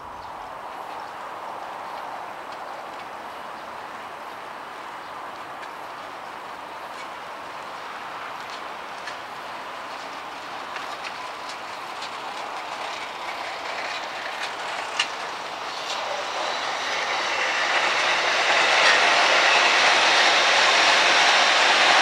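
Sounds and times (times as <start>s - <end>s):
train wheels on rails: 0.0s - 22.0s
rail joint clicks: 0.1s - 22.0s.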